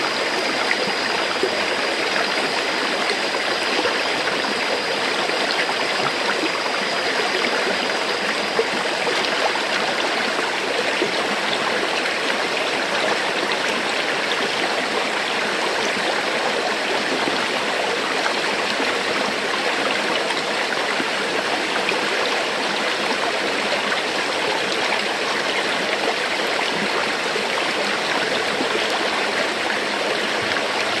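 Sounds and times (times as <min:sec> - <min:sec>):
river water flowing over rocks: 0:00.0 - 0:31.0.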